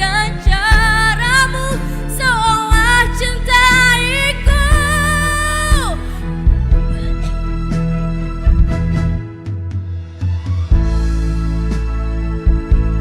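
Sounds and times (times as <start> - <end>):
backing music: 0.0 - 13.0.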